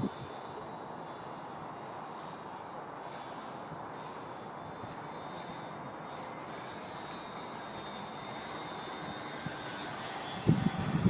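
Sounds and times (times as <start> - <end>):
electric motor whine: 0.0 - 11.0
wind hiss: 0.0 - 11.0.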